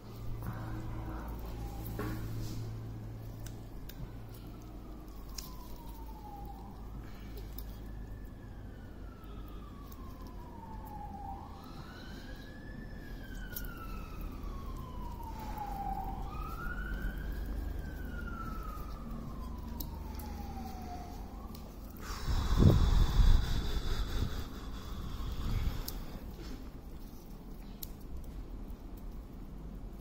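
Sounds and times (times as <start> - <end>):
siren wailing: 0.0 - 27.2
low steady rumble: 0.0 - 30.0.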